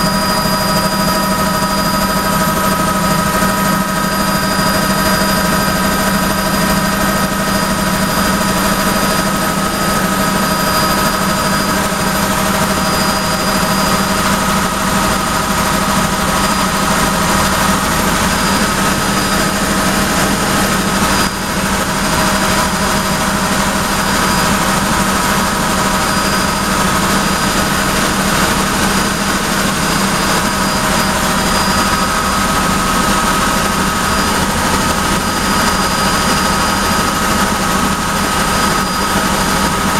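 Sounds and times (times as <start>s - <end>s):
constant whining tones: 0.0s - 39.9s
helicopter engine and rotor drone: 0.0s - 39.9s.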